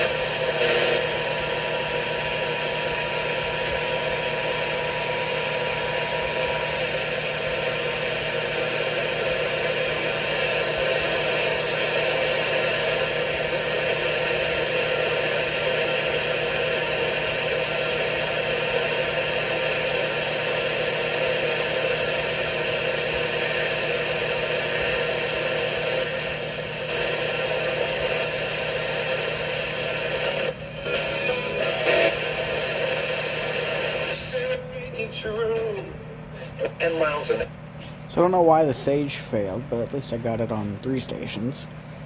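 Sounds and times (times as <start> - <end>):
radio static hiss: 0.0 - 42.0.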